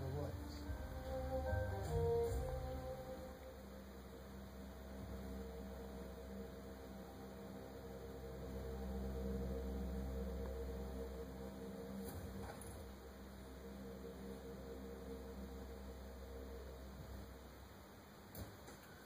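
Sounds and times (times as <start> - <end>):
soft television soundtrack tones: 0.0 - 19.0.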